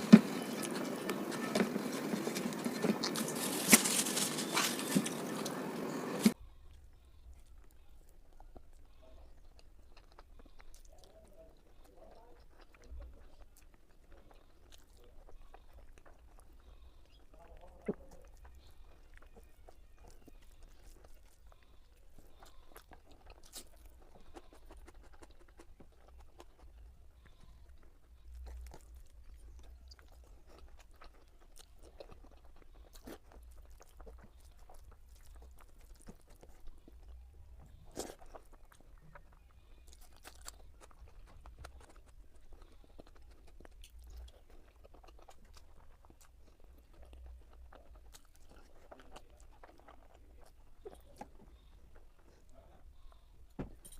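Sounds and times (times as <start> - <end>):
mouth clicks and crunches: 0.0 - 53.9
person chewing food: 0.0 - 53.9.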